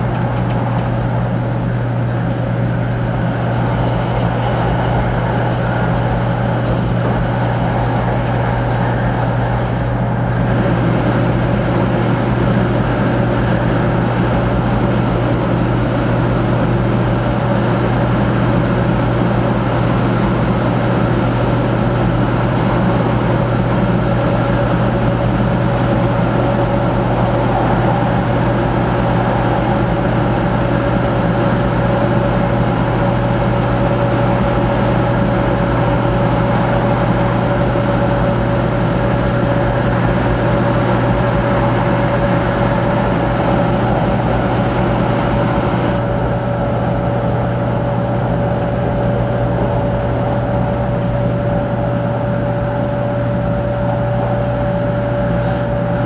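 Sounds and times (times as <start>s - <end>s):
faint steady whine: 0.0s - 56.0s
low hum: 0.0s - 56.0s
train cabin rumble: 0.0s - 56.0s.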